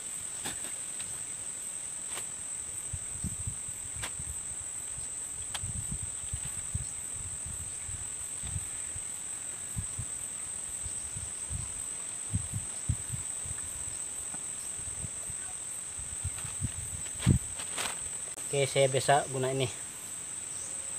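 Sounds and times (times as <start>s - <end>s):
high-pitched insect chorus: 0.0s - 20.9s.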